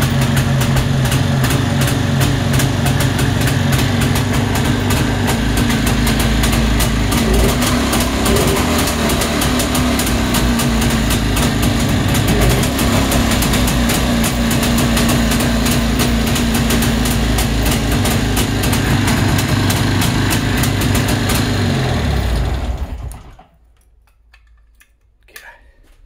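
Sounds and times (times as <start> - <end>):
motorcycle engine idling: 0.0 - 23.4.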